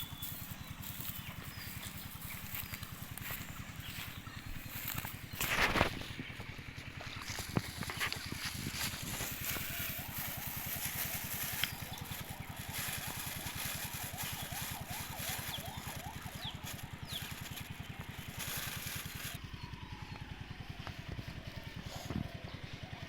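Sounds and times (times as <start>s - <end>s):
small engine chugging: 0.0s - 23.0s.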